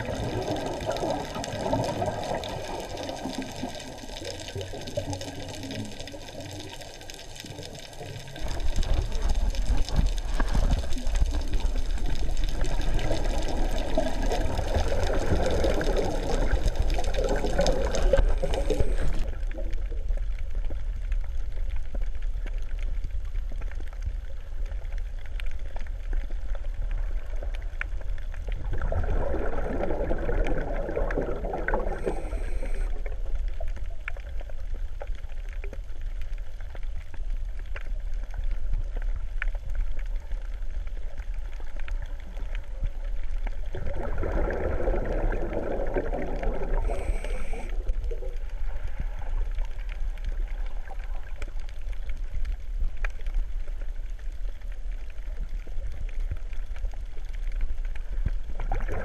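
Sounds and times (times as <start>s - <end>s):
underwater low rumble: 0.0s - 59.0s
water gurgling: 0.0s - 59.0s.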